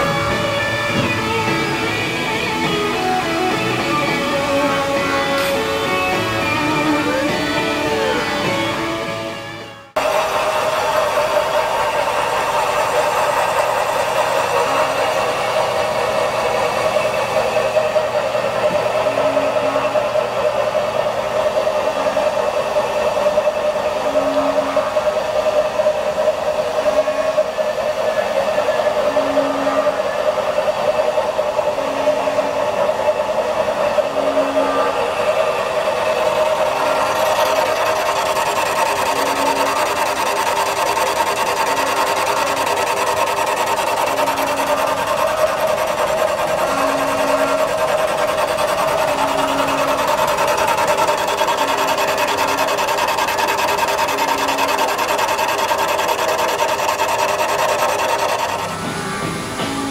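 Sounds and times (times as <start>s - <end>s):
machine spindle whine: 0.0s - 59.9s
short low hums: 0.0s - 59.9s.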